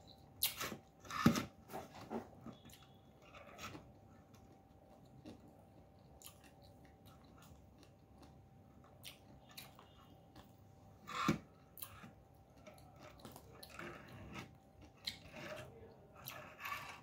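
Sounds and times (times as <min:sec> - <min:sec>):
person chewing noodles: 0:02.5 - 0:17.0.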